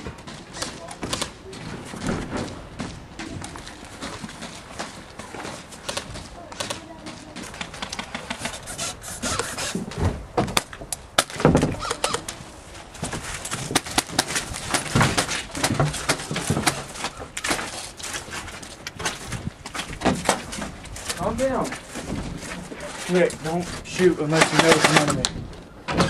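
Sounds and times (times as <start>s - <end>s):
rustle of people moving: 0.0s - 26.0s.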